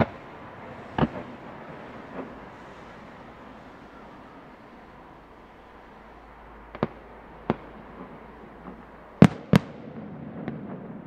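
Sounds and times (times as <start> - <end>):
faint steady background noise: 0.0 - 11.0
fireworks bangs: 0.0 - 11.0.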